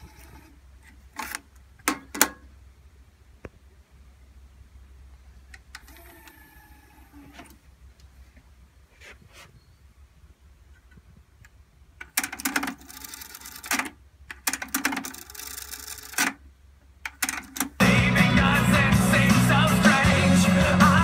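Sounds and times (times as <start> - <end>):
faint mechanical whir: 0.0 - 17.8.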